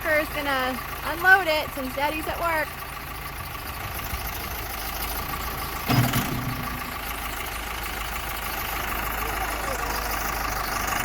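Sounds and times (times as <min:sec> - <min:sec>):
diesel engine idling: 0:00.0 - 0:11.0
engine knock: 0:00.0 - 0:11.0.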